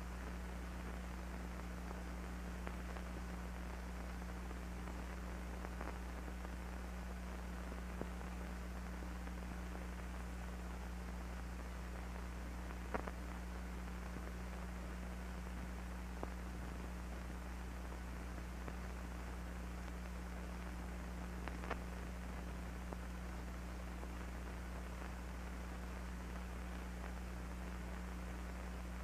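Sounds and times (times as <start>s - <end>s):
faint clicks and pops: 0.0s - 29.0s
film soundtrack hum and hiss: 0.0s - 29.0s.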